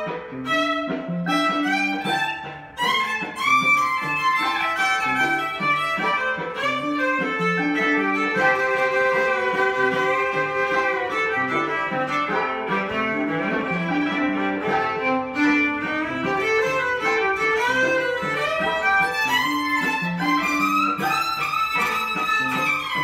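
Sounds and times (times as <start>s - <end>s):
electric violin playing: 0.0s - 23.0s.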